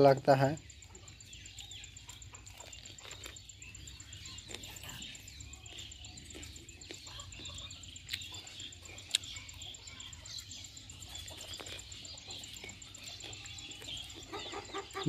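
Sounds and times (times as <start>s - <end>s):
pulsing insect trill: 0.0s - 15.0s
small birds chirping: 0.0s - 15.0s.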